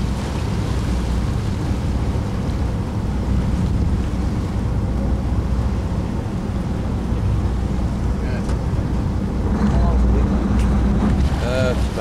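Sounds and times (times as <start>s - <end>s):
boat engine rumbling: 0.0s - 12.0s
water washing along hull: 0.0s - 12.0s
wind buffeting microphone: 0.0s - 12.0s.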